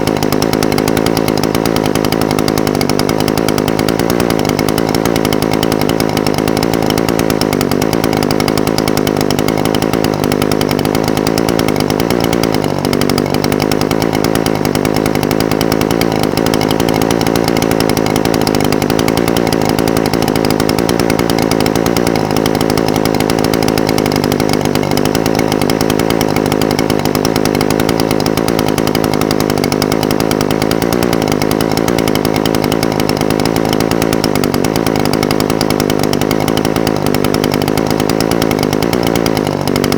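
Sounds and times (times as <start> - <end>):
brush cutter engine idling: 0.0 - 39.9.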